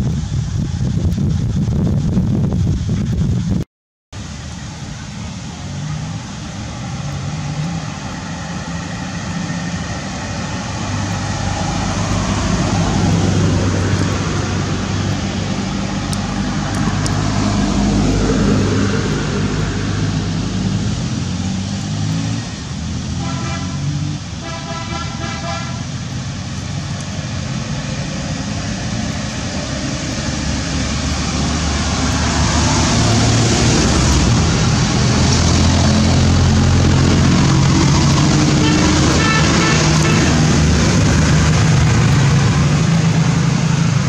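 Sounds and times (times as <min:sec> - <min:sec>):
vehicle engine hum: 0:00.0 - 0:03.6, 0:04.2 - 0:44.0.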